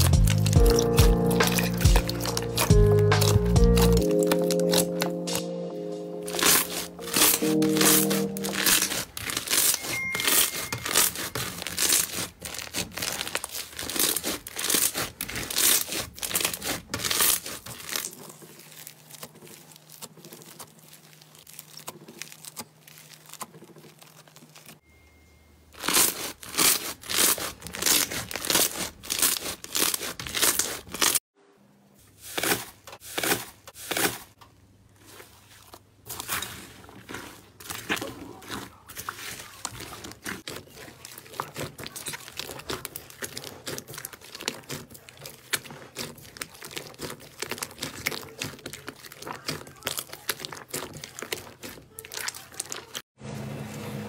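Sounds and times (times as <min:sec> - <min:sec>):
slime crackling and popping: 0:00.0 - 0:05.5, 0:06.2 - 0:24.8, 0:25.8 - 0:31.2, 0:36.1 - 0:53.0.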